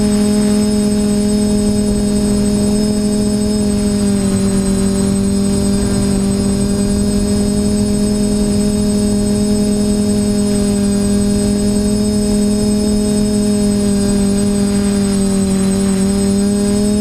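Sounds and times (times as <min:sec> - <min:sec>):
quadcopter propellers whirring: 0:00.0 - 0:17.0.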